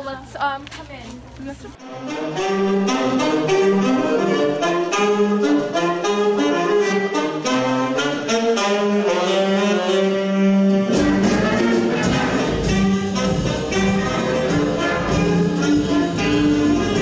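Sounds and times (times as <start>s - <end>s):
brass instrumental music: 1.8s - 17.0s.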